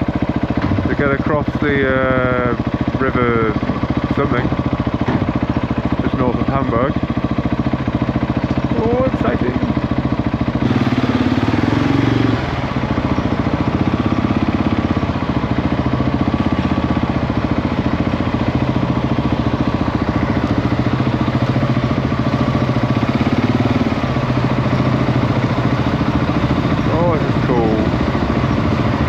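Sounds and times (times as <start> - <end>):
motorcycle engine running at low revs: 0.0 - 29.0.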